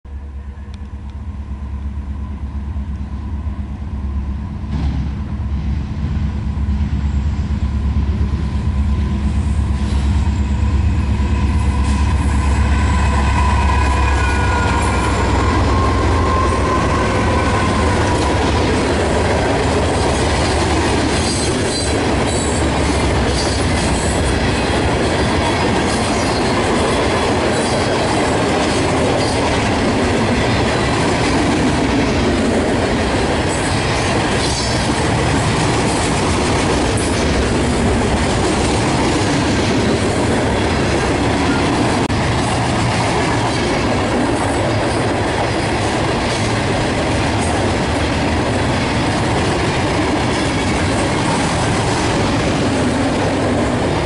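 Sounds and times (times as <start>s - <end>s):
diesel locomotive engines rumbling: 0.1s - 54.0s.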